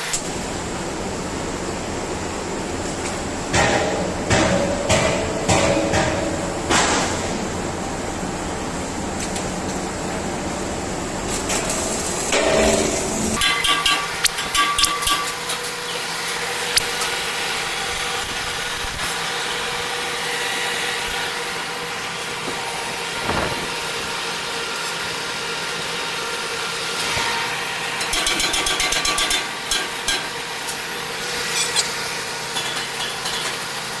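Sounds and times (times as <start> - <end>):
machinery humming: 0.0 - 28.5.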